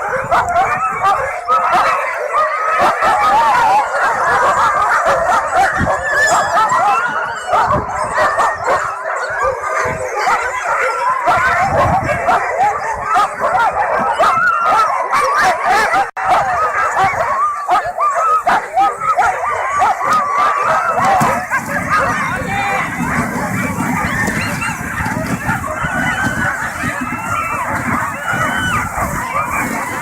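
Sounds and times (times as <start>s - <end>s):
huskies yelping and howling: 0.0s - 30.0s.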